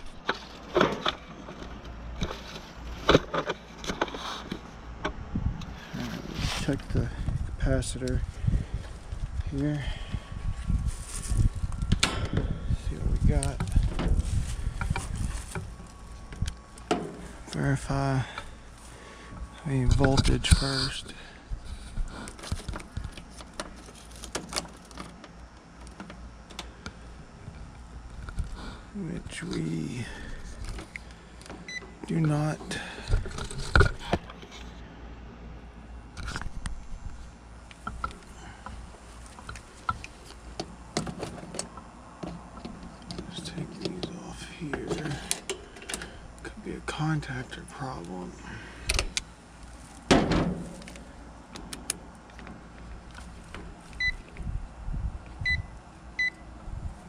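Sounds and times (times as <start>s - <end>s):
faint low hum: 0.0s - 57.0s
low steady rumble: 0.0s - 57.0s.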